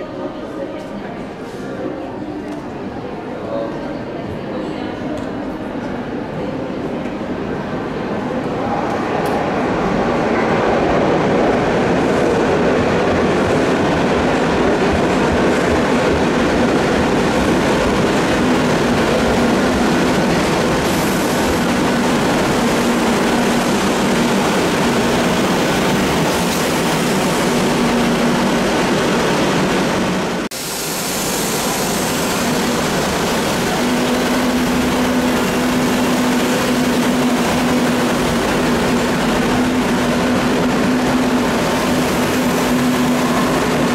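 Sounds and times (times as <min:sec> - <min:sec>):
train wheels on rail: 0:05.0 - 0:43.9.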